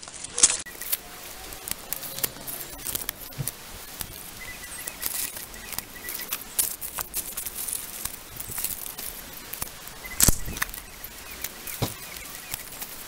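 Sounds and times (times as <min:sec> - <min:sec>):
hands rustling leaves: 0:00.0 - 0:13.0.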